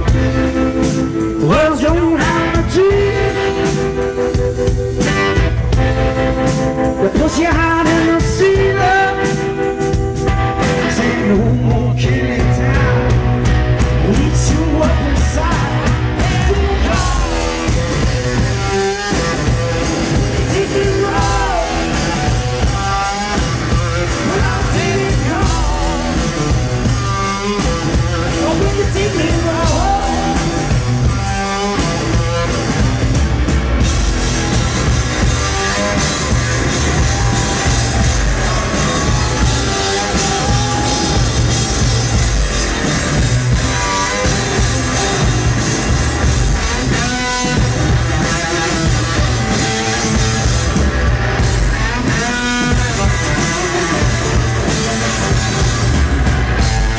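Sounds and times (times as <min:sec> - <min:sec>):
drum kit: 0:00.0 - 0:56.9
electric guitar bending lead notes: 0:00.0 - 0:56.9.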